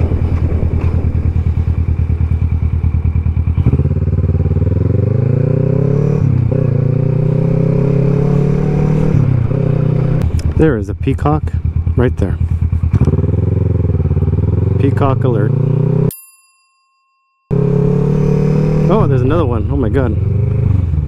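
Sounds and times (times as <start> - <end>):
motorcycle engine revving: 0.0 - 16.1, 17.5 - 21.0.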